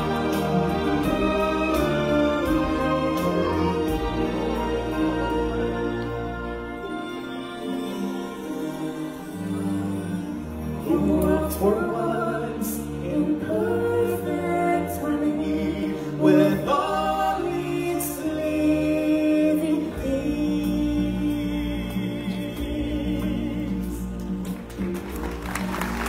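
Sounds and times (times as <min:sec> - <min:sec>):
choir-like voices singing: 0:00.0 - 0:06.8, 0:07.9 - 0:24.2
sustained musical accompaniment: 0:00.0 - 0:26.0.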